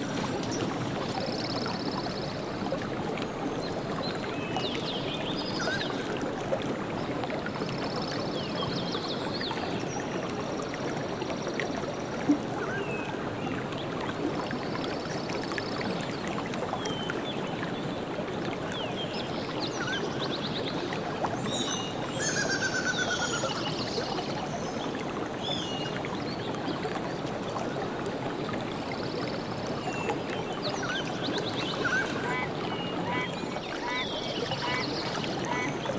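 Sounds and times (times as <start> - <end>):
stream water flowing: 0.0 - 35.9.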